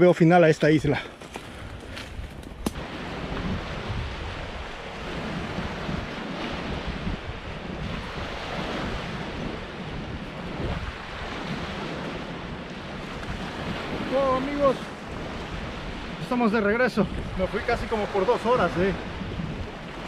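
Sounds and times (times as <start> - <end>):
wind buffeting microphone: 0.7 - 20.0.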